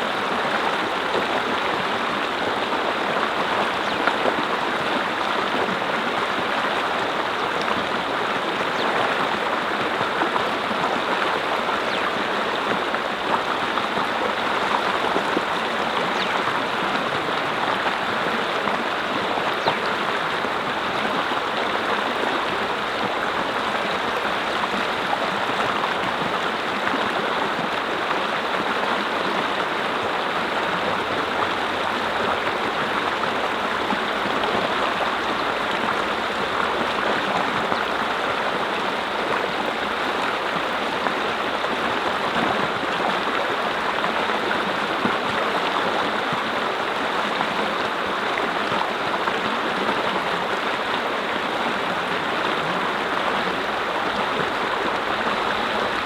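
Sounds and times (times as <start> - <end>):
brook flowing over rocks: 0.0 - 56.0.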